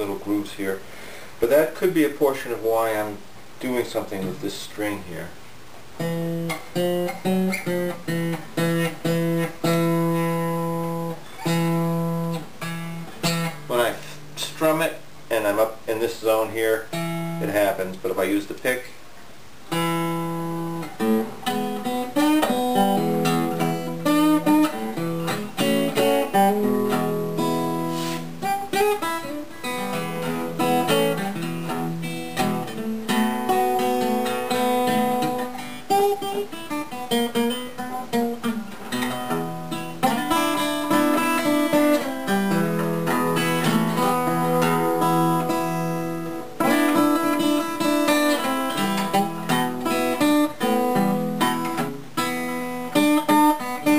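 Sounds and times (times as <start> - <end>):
acoustic guitar playing: 0.0 - 18.8, 19.5 - 53.9.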